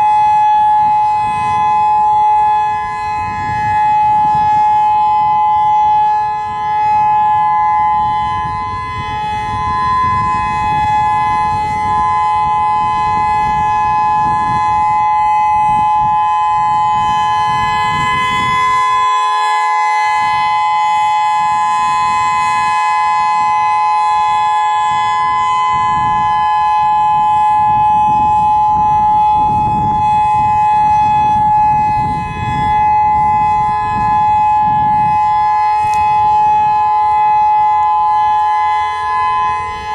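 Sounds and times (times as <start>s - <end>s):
siren two-note steady chord: 0.0s - 39.9s.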